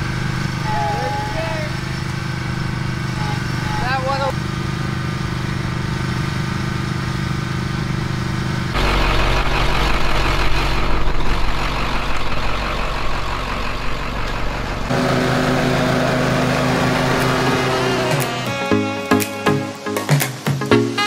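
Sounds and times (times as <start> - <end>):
mower engine running: 0.0 - 18.7.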